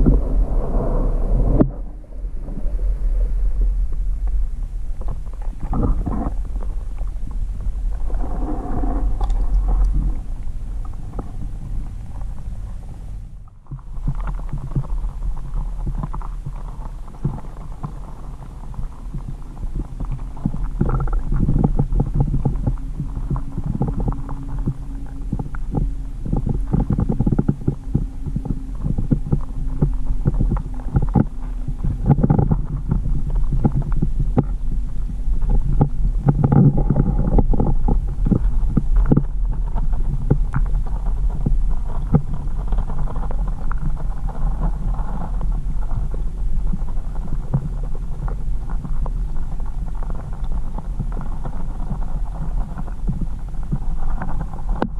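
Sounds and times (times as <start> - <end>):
dense crackling clicks: 0.0 - 54.9
faint steady hum: 0.0 - 54.9
muffled underwater rumble: 0.0 - 54.9.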